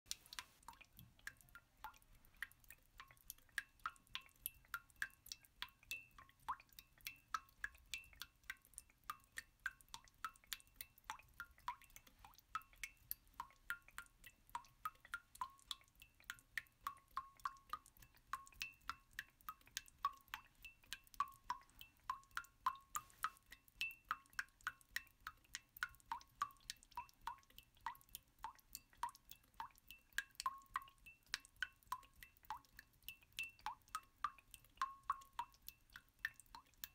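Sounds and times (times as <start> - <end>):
water dripping: 0.1 - 36.9.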